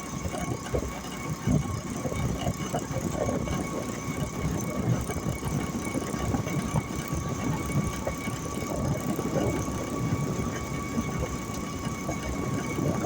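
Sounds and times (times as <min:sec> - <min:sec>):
motor rickshaw engine rumble: 0:00.0 - 0:13.0.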